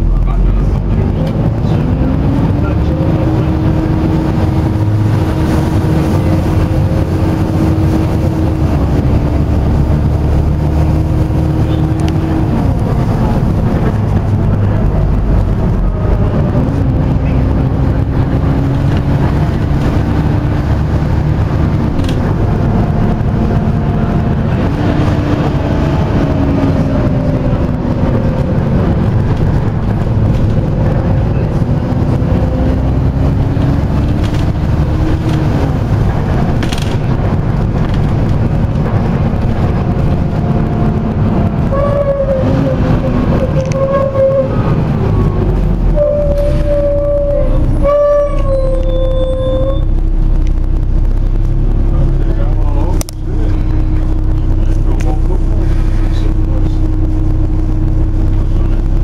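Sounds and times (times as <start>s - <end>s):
diesel bus engine running: 0.0s - 59.0s.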